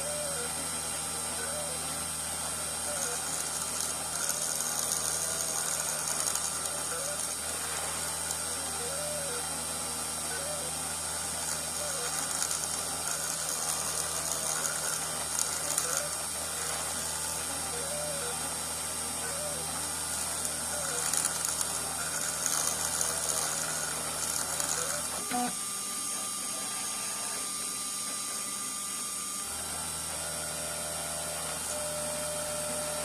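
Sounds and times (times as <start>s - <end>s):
spindle motor whine: 0.0s - 33.0s
stepper motors humming: 0.0s - 33.0s.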